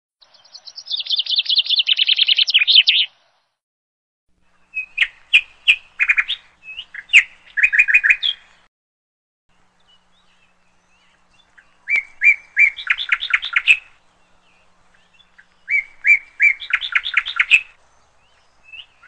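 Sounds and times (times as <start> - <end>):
songbird singing: 0.2 - 3.6, 4.4 - 8.7, 9.5 - 19.0.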